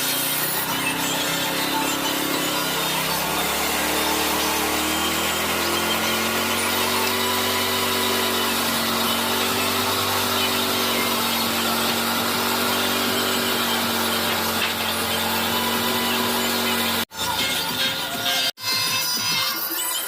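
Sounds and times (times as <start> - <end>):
power tool cutting wood: 0.0 - 20.0.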